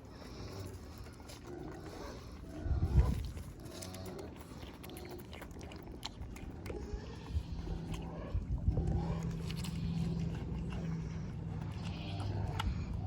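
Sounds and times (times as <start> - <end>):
animals chewing wetly: 0.0 - 13.0.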